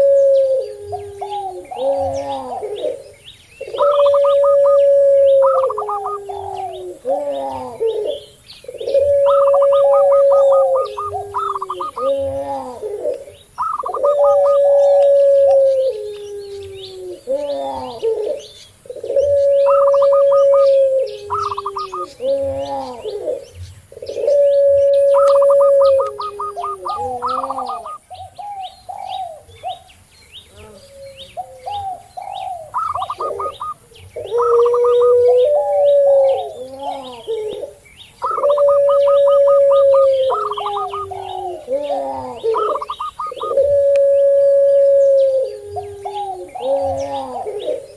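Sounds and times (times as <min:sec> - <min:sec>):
dove long steady coo: 0:00.0 - 0:47.9
small birds chirping: 0:00.0 - 0:47.9
doves cooing quick high notes: 0:03.7 - 0:08.2, 0:08.8 - 0:18.4, 0:19.1 - 0:23.4, 0:24.1 - 0:28.0, 0:30.6 - 0:47.8.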